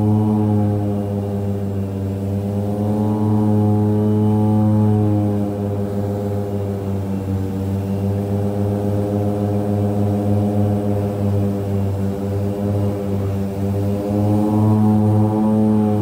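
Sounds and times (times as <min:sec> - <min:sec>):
turboprop cabin drone: 0:00.0 - 0:16.0.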